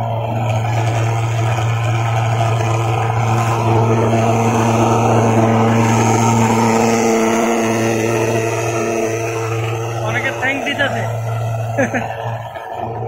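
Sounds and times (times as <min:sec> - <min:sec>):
fogging machine droning: 0:00.0 - 0:13.0.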